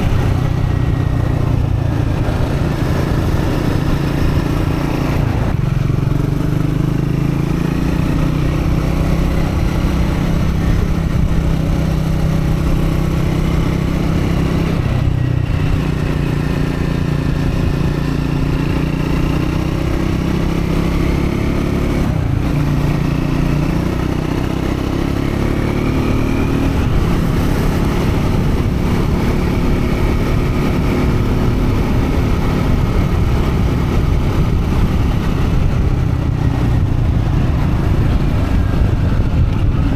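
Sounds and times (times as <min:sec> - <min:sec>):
wind buffeting microphone: 0:00.0 - 0:21.2, 0:21.9 - 0:39.9
motorcycle engine pulling steadily: 0:00.0 - 0:39.9.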